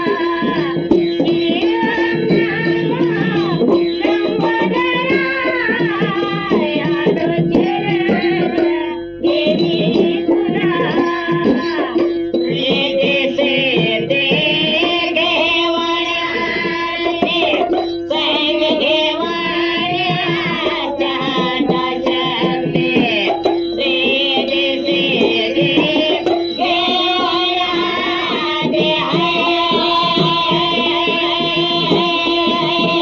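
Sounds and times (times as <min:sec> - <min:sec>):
devotional folk singing: 0:00.0 - 0:33.0.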